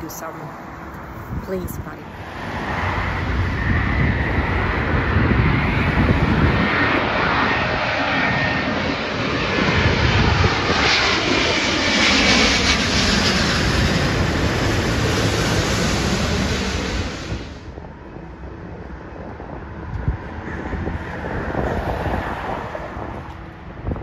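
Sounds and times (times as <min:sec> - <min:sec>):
jet airliner roar overhead: 0:00.0 - 0:24.0.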